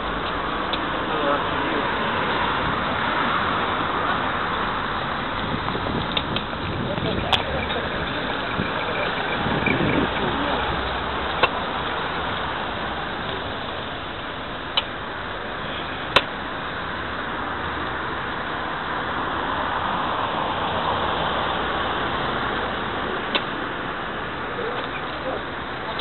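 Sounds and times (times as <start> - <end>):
road traffic: 0.0 - 26.0.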